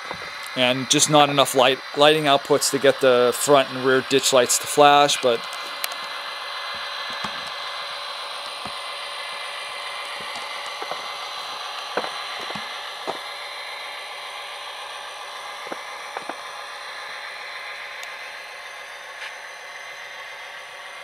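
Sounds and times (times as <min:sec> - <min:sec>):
diesel engine sound through small speaker: 0:00.0 - 0:21.0.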